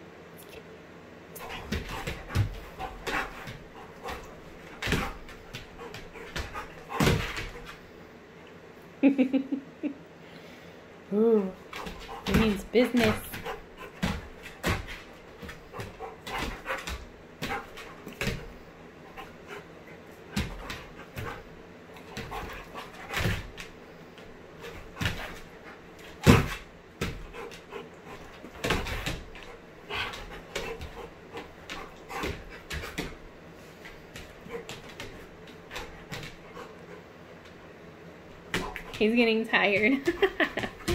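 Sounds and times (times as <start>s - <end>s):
dog making play sounds: 1.4s - 7.9s, 11.5s - 23.8s, 24.6s - 33.3s, 33.9s - 37.6s, 38.4s - 40.9s.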